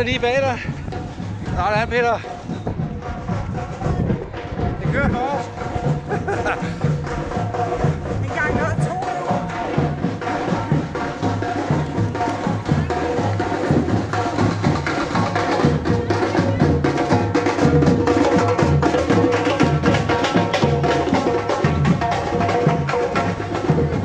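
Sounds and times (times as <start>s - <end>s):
drum band playing fast beat: 0.0s - 24.0s.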